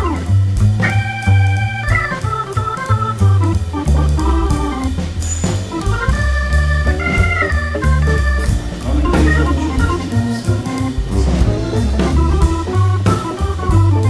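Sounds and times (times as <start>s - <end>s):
bass line: 0.0s - 14.0s
drum beat: 0.0s - 14.0s
organ-like chords: 0.0s - 14.0s.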